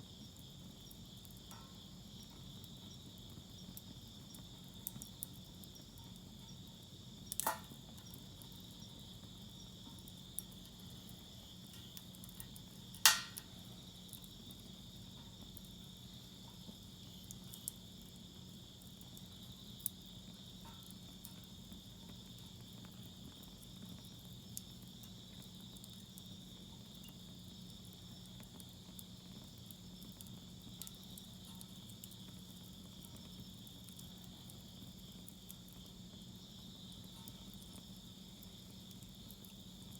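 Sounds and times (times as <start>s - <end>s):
crickets chirping: 0.0s - 39.9s
fire popping: 0.0s - 39.9s
wood fire crackling: 0.0s - 39.9s.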